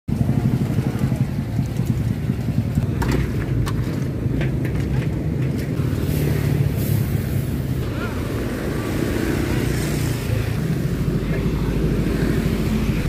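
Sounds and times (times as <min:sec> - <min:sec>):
road traffic rumble: 0:00.1 - 0:13.0
vehicle passing close: 0:00.2 - 0:13.0.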